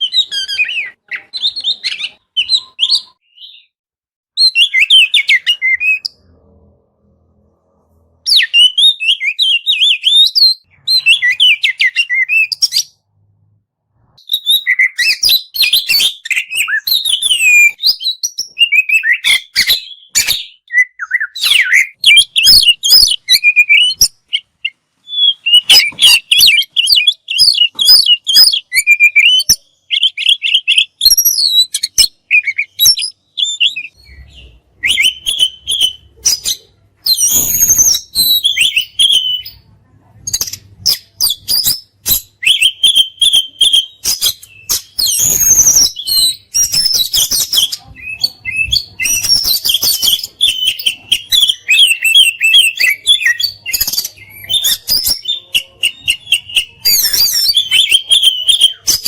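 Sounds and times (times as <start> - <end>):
bird singing whistled song: 0.0 - 3.8, 4.4 - 6.3, 8.2 - 13.0, 14.1 - 39.6, 40.3 - 59.0.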